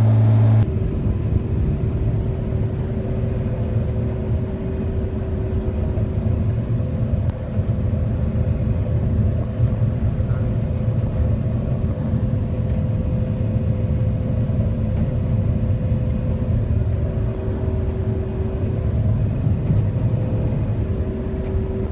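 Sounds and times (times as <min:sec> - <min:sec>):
diesel engine rumble: 0:00.0 - 0:21.9.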